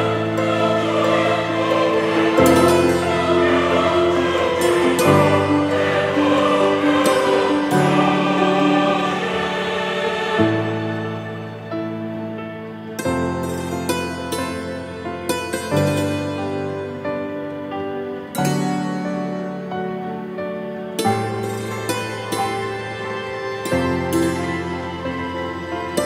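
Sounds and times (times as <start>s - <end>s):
choral voices over held chords: 0.0s - 26.0s.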